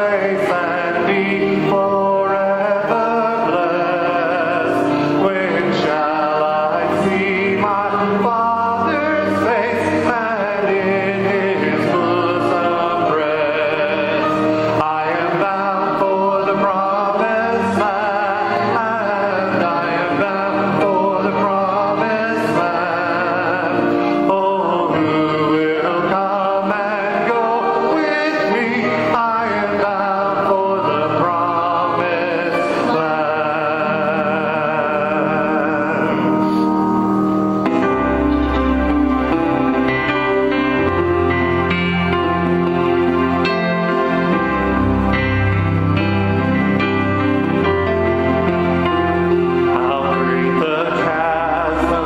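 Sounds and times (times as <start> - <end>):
choir singing a hymn: 0.0 - 52.0.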